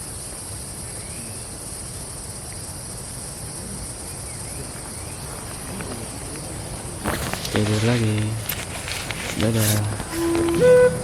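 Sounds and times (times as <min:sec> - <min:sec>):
insects droning chorus: 0:00.0 - 0:11.0.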